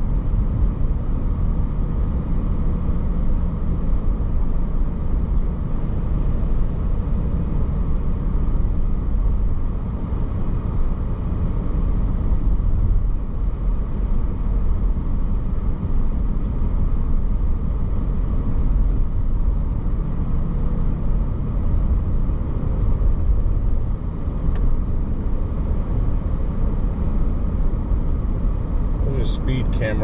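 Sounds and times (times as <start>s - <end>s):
car tyre and engine noise: 0.0s - 30.0s.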